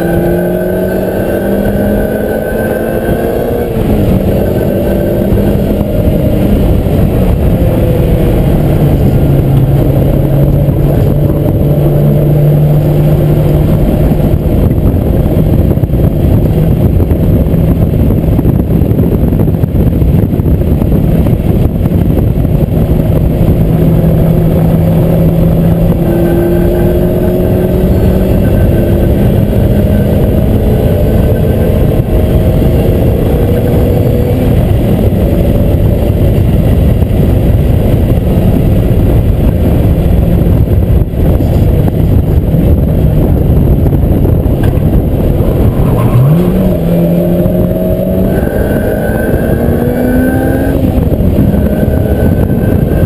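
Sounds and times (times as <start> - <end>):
car engine at high revs: 0.0 - 53.0
road and wind noise: 0.0 - 53.0.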